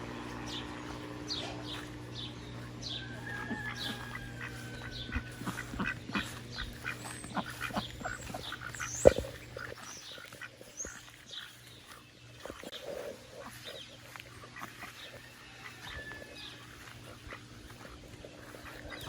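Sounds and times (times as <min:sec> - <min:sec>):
ducks quacking: 0:00.0 - 0:19.0
small birds chirping: 0:00.0 - 0:19.0.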